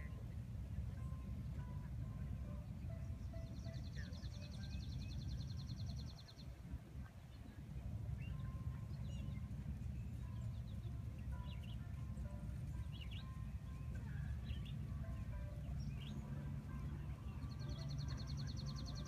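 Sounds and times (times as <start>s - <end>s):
low outdoor rumble: 0.0s - 19.0s
songbird trilling and chirping: 0.9s - 19.0s.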